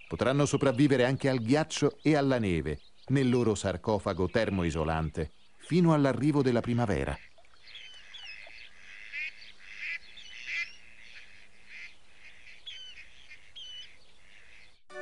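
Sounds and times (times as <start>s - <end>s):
waterbirds harsh raspy calls: 0.0s - 14.8s.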